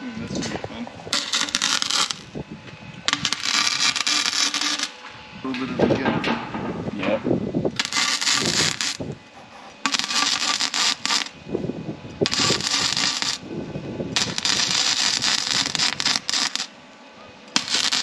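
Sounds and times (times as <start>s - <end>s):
arc welder crackling hiss: 0.0s - 5.6s, 7.6s - 11.4s, 12.2s - 13.5s, 14.1s - 18.0s.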